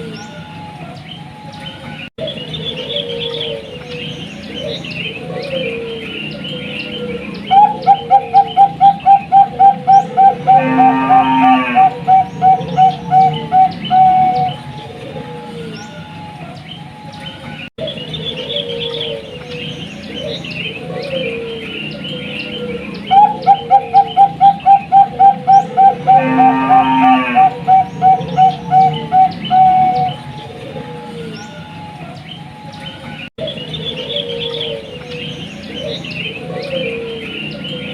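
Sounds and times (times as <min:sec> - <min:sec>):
small birds chirping: 0:00.0 - 0:10.7, 0:11.8 - 0:26.4, 0:27.4 - 0:37.9
dove cooing: 0:02.2 - 0:16.6, 0:17.9 - 0:32.2, 0:33.4 - 0:37.9.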